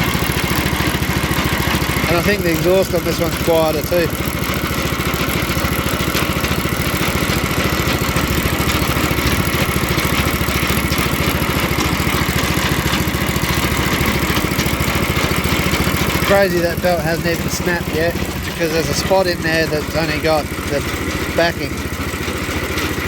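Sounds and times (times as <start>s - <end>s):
small petrol engine running: 0.0s - 23.0s.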